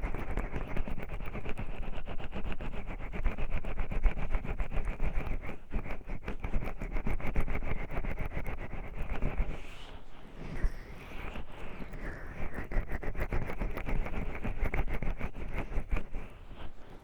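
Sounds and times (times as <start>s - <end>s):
oiled hands rubbing microphone: 0.0s - 17.0s.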